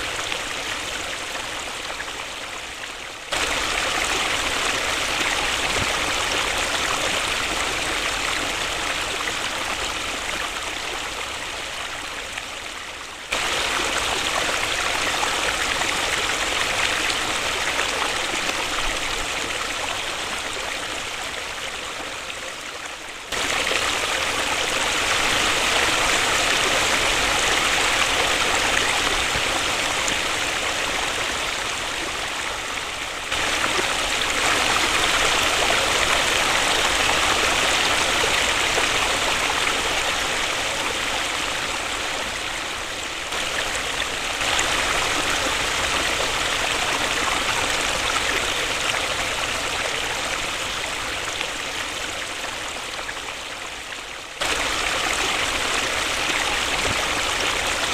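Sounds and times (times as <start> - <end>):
waterfall rushing: 3.3 - 12.1, 13.3 - 21.6, 23.3 - 53.1, 54.4 - 57.9.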